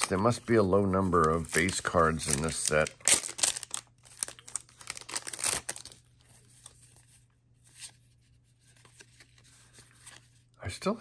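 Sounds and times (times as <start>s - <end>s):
trading cards rustling: 0.0s - 10.4s.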